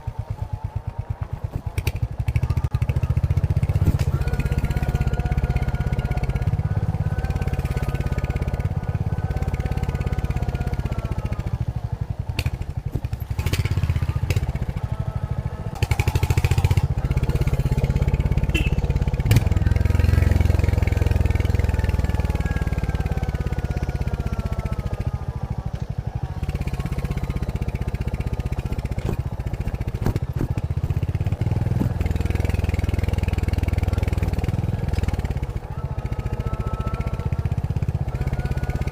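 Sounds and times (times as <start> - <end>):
motorcycle engine on the move: 0.0 - 38.9.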